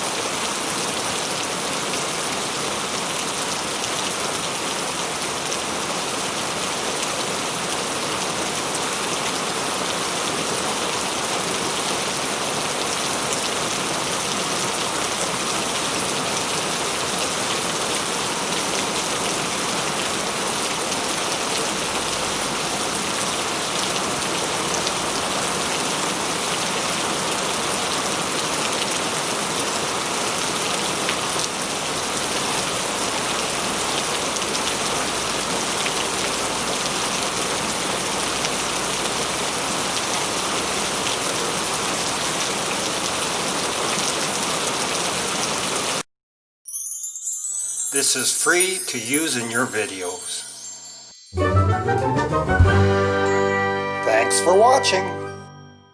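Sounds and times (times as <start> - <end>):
heavy rain falling: 0.1 - 46.0.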